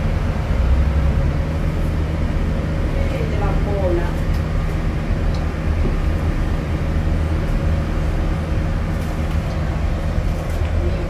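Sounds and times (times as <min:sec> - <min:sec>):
bus engine humming: 0:00.0 - 0:11.0.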